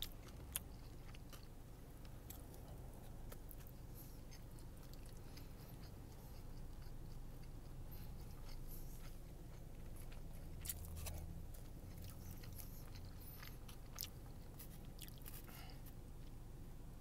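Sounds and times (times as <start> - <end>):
person chewing food: 0.0 - 16.4
low steady hum: 0.0 - 17.0.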